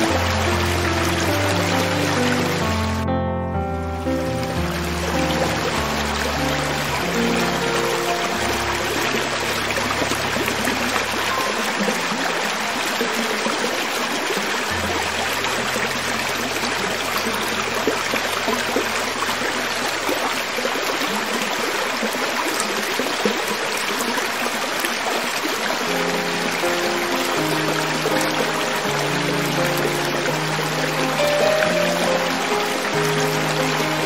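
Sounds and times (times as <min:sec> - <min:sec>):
creek water running over rocks: 0:00.0 - 0:03.2, 0:03.8 - 0:34.0.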